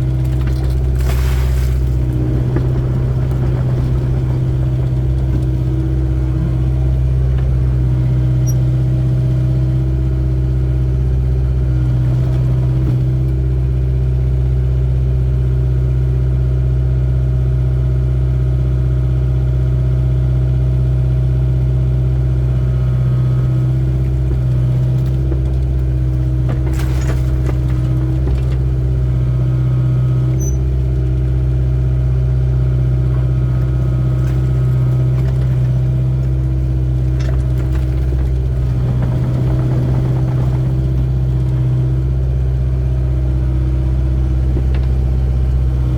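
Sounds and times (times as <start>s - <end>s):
excavator diesel engine running: 0.0s - 16.6s, 17.3s - 45.9s.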